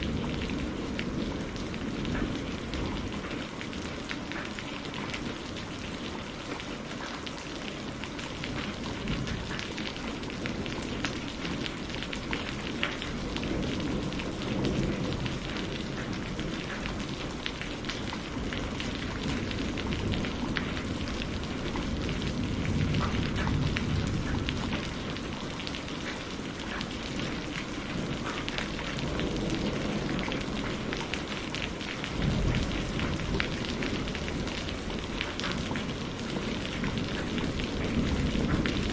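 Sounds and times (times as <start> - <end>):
distant thunder rumbling: 0.0 - 6.7, 7.6 - 38.9
heavy rain: 0.0 - 38.9.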